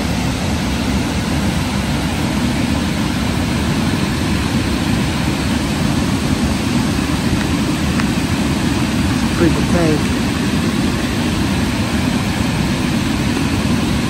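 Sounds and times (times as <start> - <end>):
water rushing over rapids: 0.0 - 14.0.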